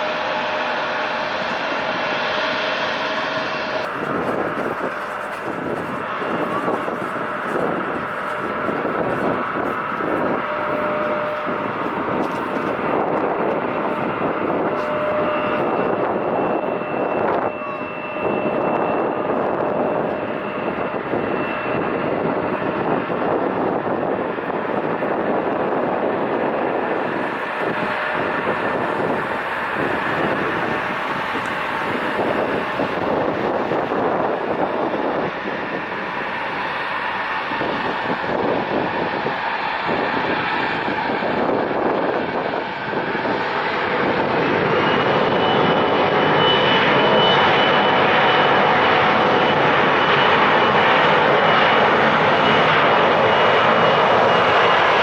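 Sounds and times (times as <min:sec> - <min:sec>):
jet engines at takeoff: 0:00.0 - 0:55.0.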